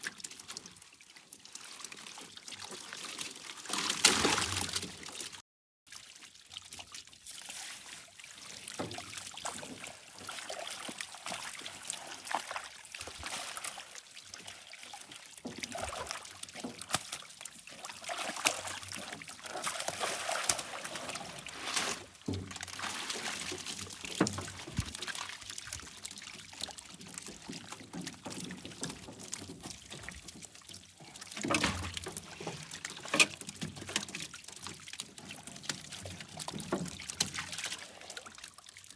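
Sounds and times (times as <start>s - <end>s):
small splashes and clicks: 0.0s - 38.9s
water pouring and trickling: 0.0s - 38.9s.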